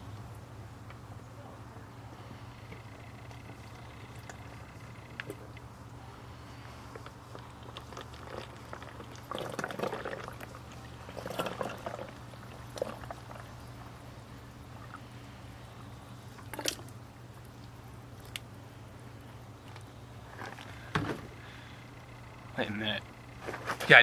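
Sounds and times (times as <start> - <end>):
steady low hum: 0.0 - 24.0
motor oil pouring and dripping: 2.5 - 23.9.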